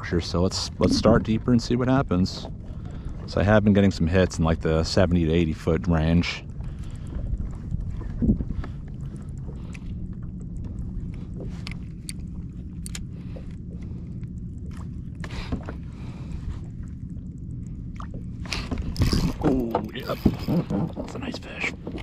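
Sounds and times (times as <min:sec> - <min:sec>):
wind and water rumble: 0:00.0 - 0:22.0.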